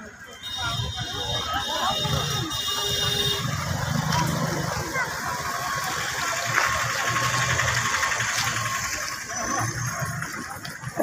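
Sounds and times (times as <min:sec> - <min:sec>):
people chattering: 0:00.0 - 0:11.0
vehicle engine running: 0:01.2 - 0:11.0.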